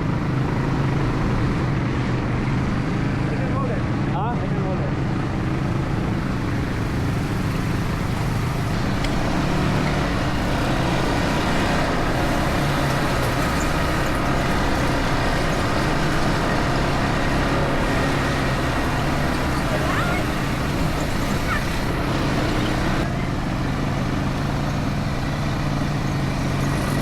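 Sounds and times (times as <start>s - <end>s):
vehicle engine droning: 0.0s - 27.0s
wind and road noise: 0.0s - 27.0s.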